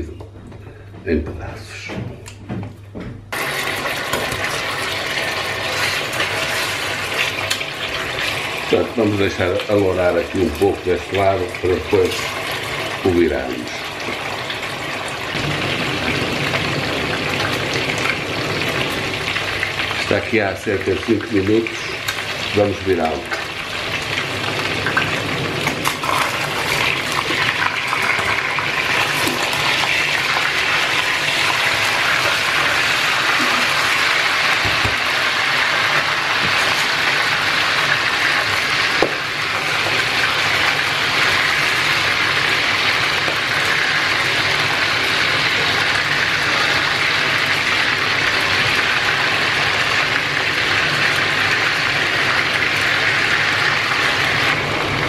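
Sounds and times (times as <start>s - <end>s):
chicken sizzling in oil: 3.3s - 55.0s.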